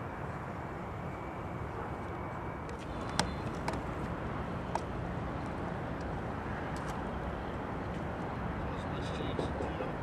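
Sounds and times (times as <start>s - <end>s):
outdoor rumble and hiss: 0.0s - 10.0s.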